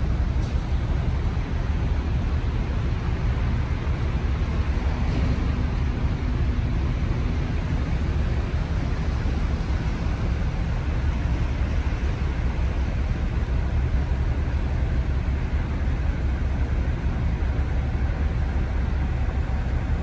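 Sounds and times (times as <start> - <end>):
ship engines rumbling: 0.0 - 20.0.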